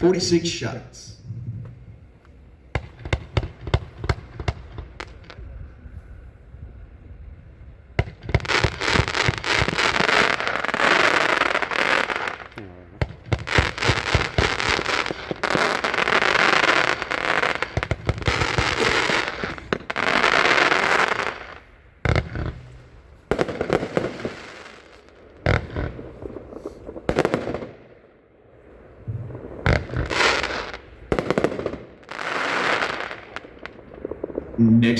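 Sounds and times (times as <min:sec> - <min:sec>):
fireworks bursts: 0:00.0 - 0:05.6, 0:07.7 - 0:34.9.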